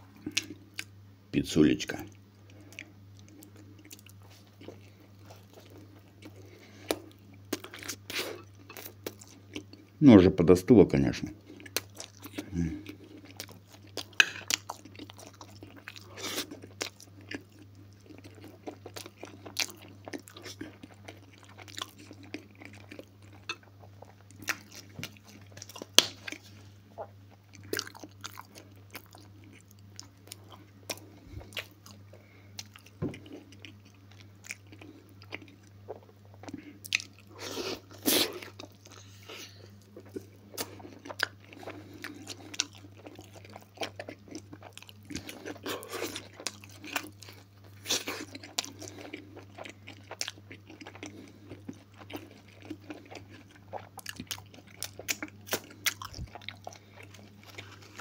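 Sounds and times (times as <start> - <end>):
mouth chewing food: 2.0 - 10.0, 11.2 - 58.0.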